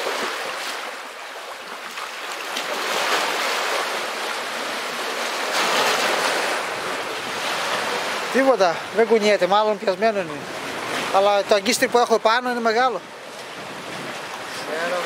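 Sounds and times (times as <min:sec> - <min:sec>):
waves washing over pebbles: 0:00.0 - 0:15.0.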